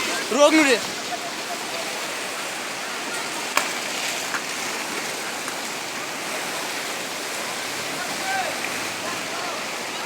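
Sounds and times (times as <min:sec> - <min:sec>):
rushing river water: 0:00.0 - 0:10.0.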